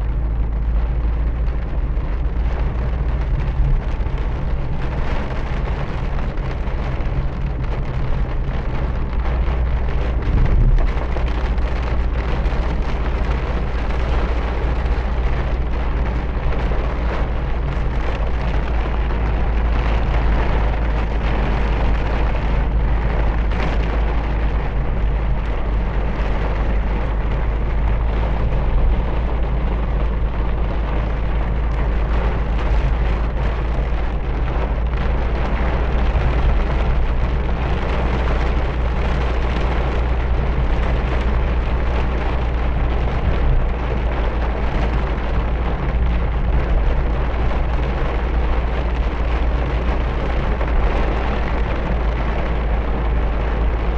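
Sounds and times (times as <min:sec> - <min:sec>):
deep rumble: 0:00.0 - 0:53.9
heavy rain falling: 0:00.0 - 0:53.9.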